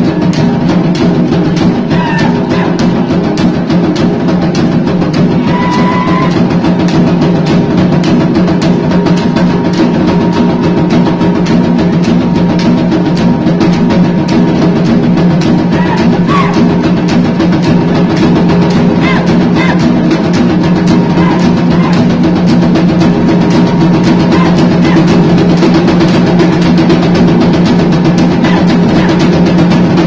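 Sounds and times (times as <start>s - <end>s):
drum-led music: 0.0s - 30.0s.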